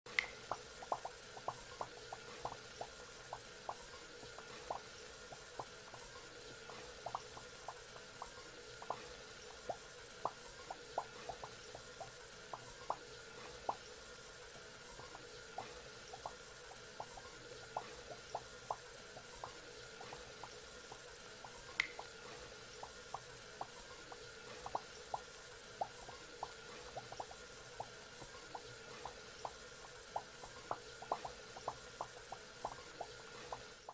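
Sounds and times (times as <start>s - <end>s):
faint steady hum: 0.1s - 33.9s
faucet dripping: 0.1s - 33.9s.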